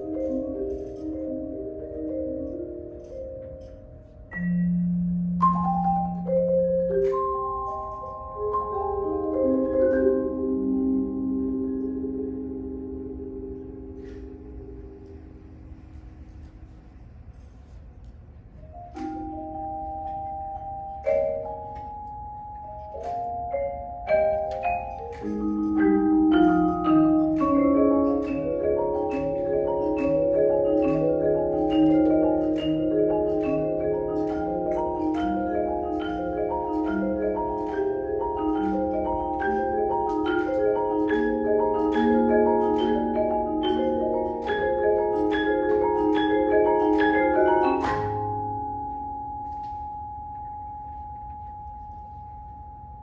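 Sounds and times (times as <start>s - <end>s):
vibraphone note ringing: 0.0s - 15.2s, 18.7s - 53.0s
vibraphone and marimba duet: 0.0s - 15.8s, 18.6s - 53.0s.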